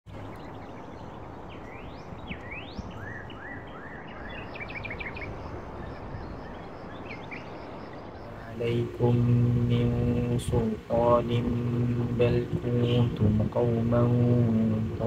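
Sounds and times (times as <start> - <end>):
birds chirping: 0.1 - 15.0
steady outdoor hiss: 0.1 - 15.0.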